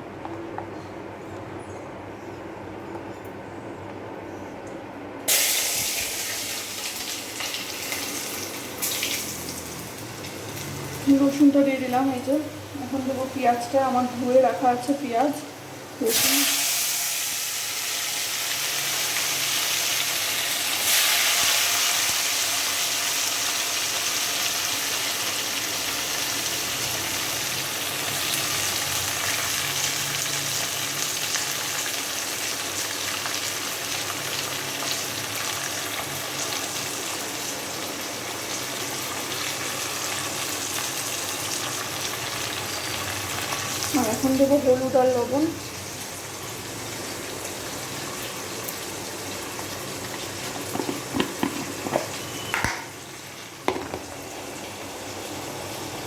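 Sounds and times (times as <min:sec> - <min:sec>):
garlic and onion sizzling in oil: 0:05.3 - 0:56.0.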